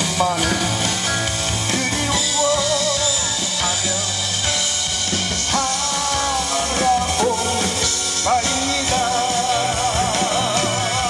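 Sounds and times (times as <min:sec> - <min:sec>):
man singing into microphone: 0:00.0 - 0:01.0, 0:01.6 - 0:04.6, 0:05.4 - 0:11.0
backing track with drums: 0:00.0 - 0:11.0.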